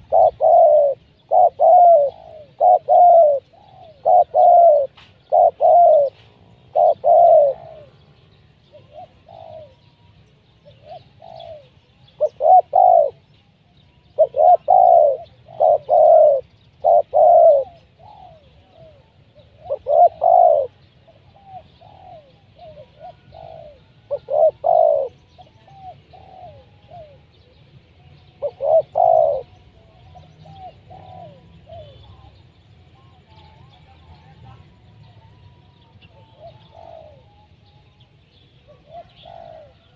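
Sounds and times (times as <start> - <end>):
dove cooing: 0.0 - 9.9, 10.5 - 13.4, 14.0 - 39.9.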